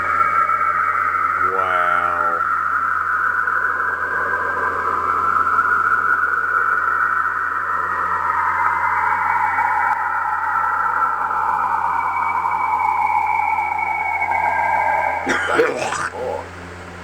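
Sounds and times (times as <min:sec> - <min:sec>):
eerie whooshing electromagnetic emissions: 0:00.0 - 0:16.7.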